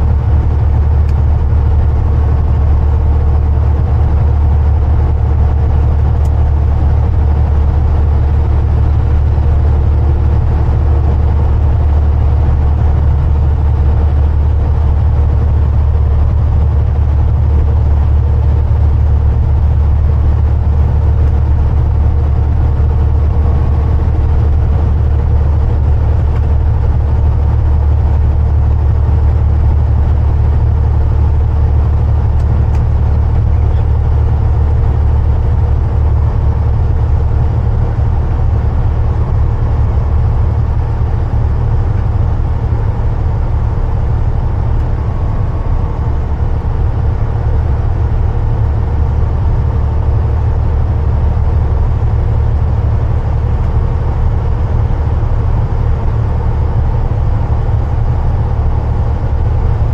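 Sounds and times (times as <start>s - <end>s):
low diesel engine drone: 0.0s - 59.9s
road and tyre noise: 0.0s - 59.9s.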